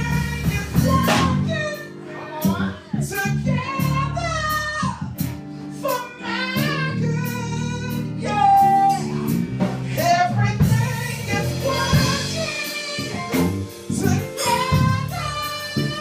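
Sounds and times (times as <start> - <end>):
drums and cymbals: 0.0 - 2.5, 4.8 - 16.0
person singing: 0.0 - 5.2, 5.8 - 16.0
gospel band playing: 0.0 - 16.0.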